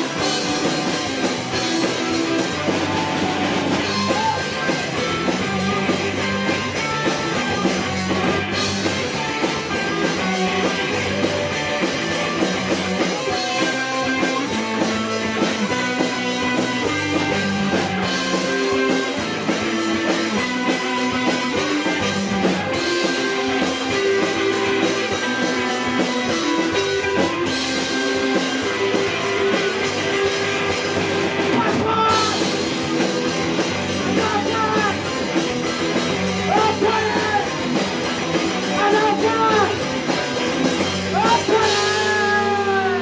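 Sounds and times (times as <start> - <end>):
drum kit: 0.0 - 43.0
electric guitars: 0.0 - 43.0.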